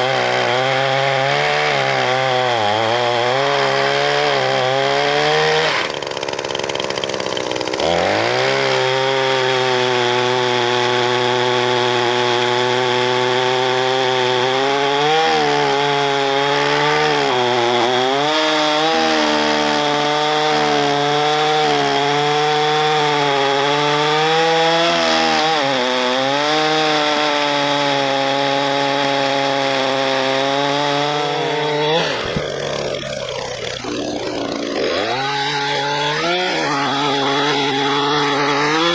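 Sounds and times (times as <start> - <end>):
pole saw engine cutting branches: 0.0 - 38.9.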